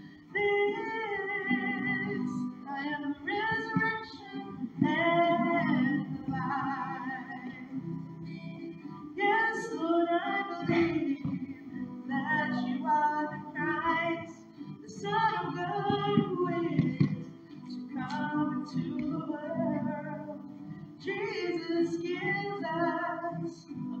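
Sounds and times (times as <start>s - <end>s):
woman singing into microphone: 0.0s - 24.0s.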